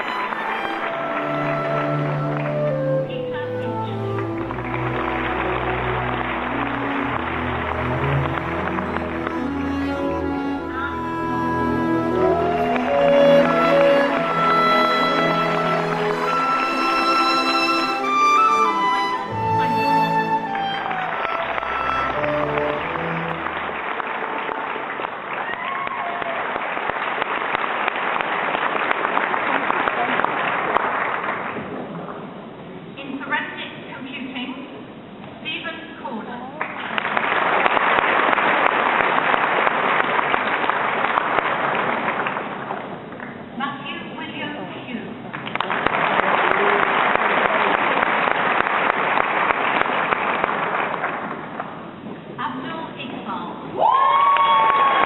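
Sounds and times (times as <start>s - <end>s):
audience clapping: 0.0s - 32.3s, 36.6s - 43.5s, 45.3s - 52.1s, 54.0s - 55.0s.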